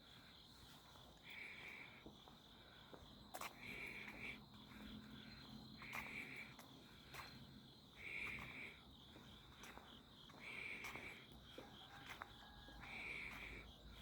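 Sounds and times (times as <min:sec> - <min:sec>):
insect trill: 0:00.0 - 0:14.0
loud insect chirp: 0:00.0 - 0:14.0.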